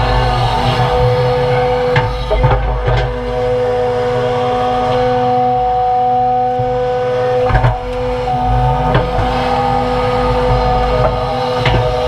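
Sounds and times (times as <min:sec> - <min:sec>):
excavator engine and hydraulics whine: 0:00.0 - 0:12.0.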